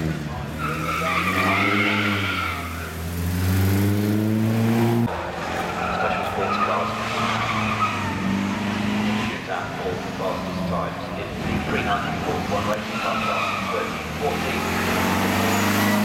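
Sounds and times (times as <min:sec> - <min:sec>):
racing car engine accelerating: 0:00.0 - 0:16.0
racing car engine running steadily: 0:00.0 - 0:16.0.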